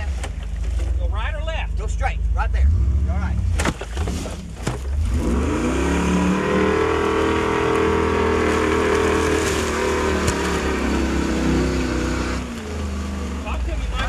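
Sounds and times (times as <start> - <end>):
car engine revving: 1.2 - 14.0.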